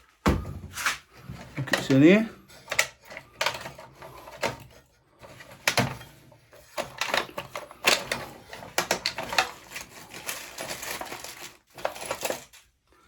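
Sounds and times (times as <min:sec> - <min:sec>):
metal tools clicking and clattering: 0:01.3 - 0:12.6.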